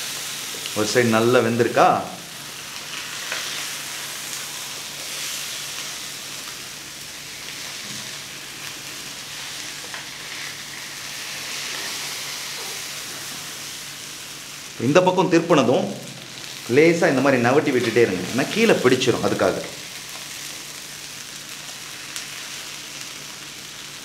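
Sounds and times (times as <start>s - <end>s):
food sizzling in oil: 0.0s - 14.8s, 15.4s - 24.0s.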